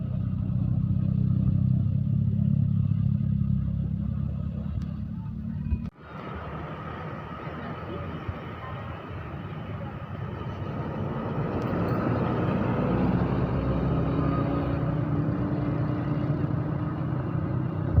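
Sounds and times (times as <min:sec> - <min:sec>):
large vehicle engine and tyre rumble: 0:00.0 - 0:18.0.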